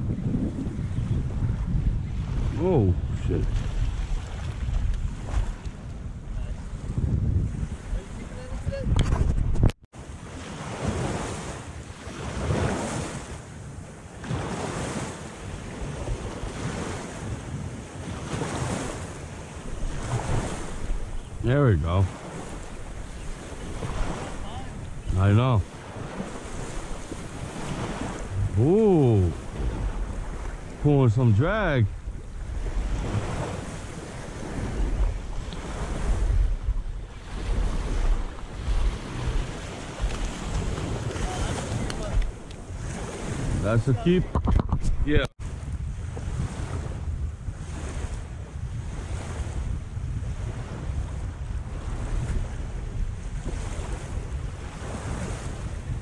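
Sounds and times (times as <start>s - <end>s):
small waves washing at shoreline: 0.0s - 9.2s, 10.0s - 56.0s
wind buffeting microphone: 0.0s - 56.0s.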